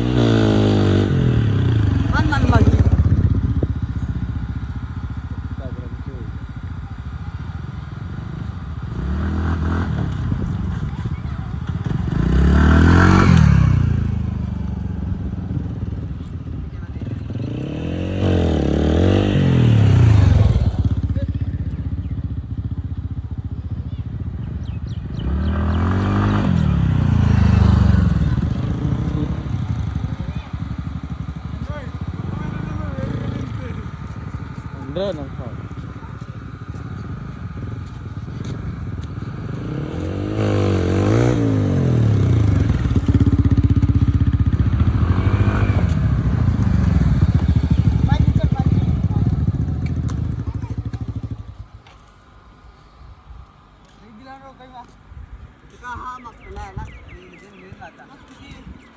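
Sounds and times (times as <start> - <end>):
motorcycle engine revving: 0.0 - 52.5.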